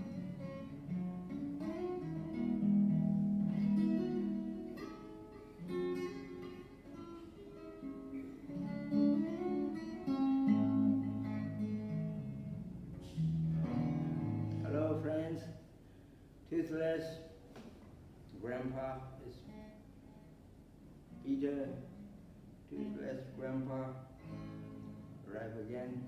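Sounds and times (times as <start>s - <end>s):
solo acoustic guitar: 0.0s - 26.0s.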